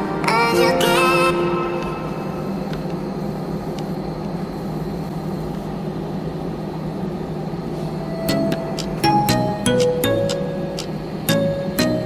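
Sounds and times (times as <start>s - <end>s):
jet engines humming in cabin: 0.0s - 12.0s.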